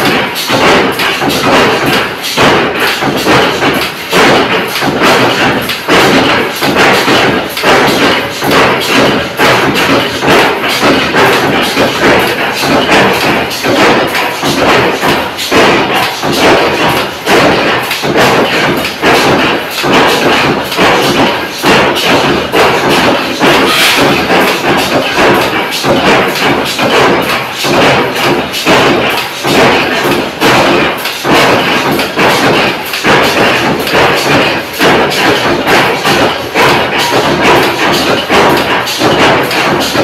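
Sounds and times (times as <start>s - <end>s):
power press metal thumps: 0.0s - 40.0s.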